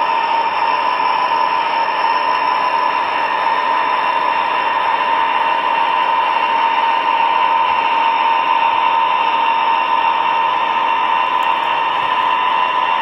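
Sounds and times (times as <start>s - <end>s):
model locomotive engine drone: 0.0s - 13.0s.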